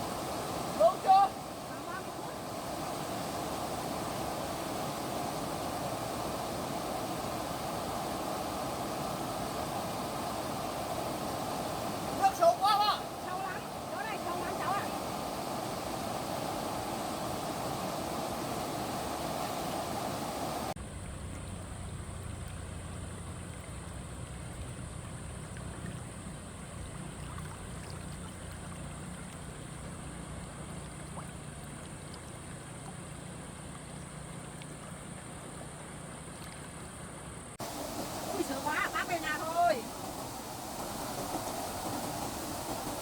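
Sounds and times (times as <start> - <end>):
deep rumble of water: 0.0 - 43.0
stream water rushing: 0.0 - 43.0.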